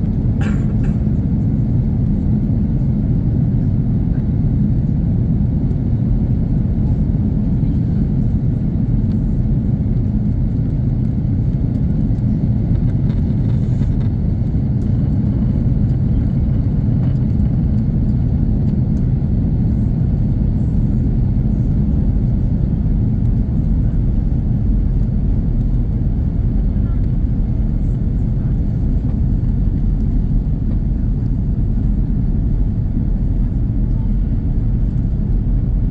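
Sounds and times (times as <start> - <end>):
jet engine cabin rumble: 0.0 - 35.9.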